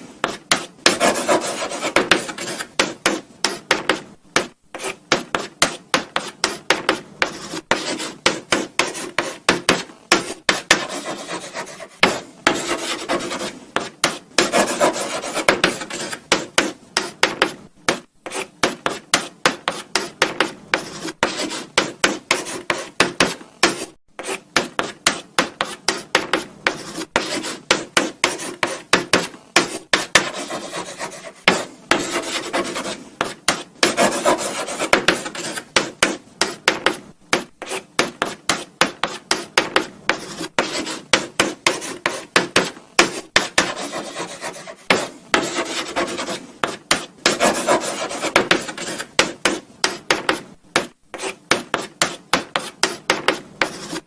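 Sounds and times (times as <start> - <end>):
chalk scratching on blackboard: 0.0 - 54.0.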